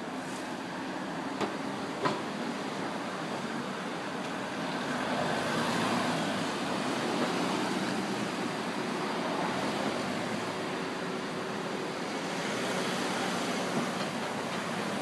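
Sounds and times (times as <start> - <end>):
passing street traffic: 0.0 - 15.0.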